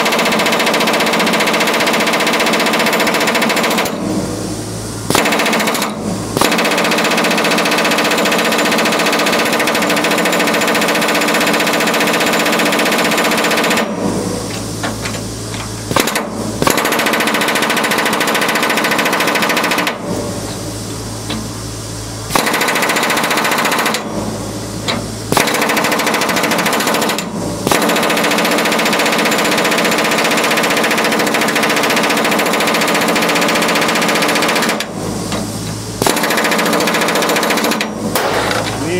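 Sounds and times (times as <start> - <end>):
pneumatic hammer on metal rivets: 0.0 - 4.2, 5.1 - 21.5, 22.3 - 38.8.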